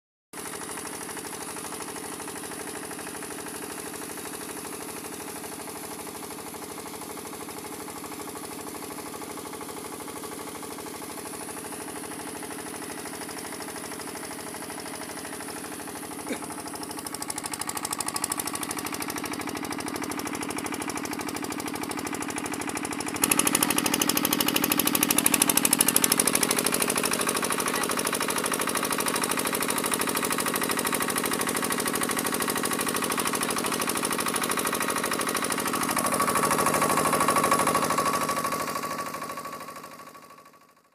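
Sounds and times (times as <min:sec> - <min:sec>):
diesel engine running: 0:00.5 - 0:40.2.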